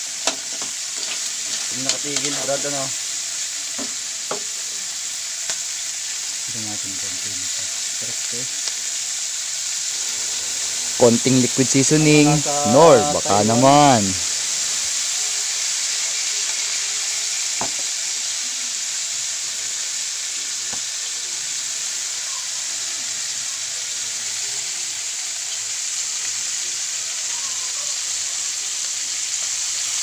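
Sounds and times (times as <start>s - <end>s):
crabs sizzling in a hot wok: 0.0s - 30.0s.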